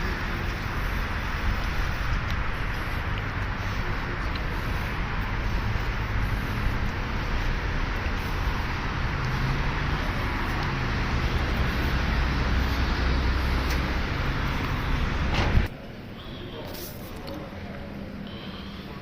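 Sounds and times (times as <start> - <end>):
traffic noise: 0.0 - 19.0
vehicle engine humming: 0.0 - 19.0.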